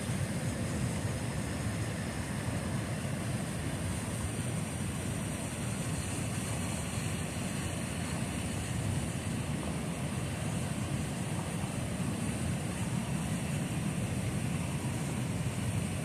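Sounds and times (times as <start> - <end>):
fast-flowing river rushing: 0.0 - 16.0.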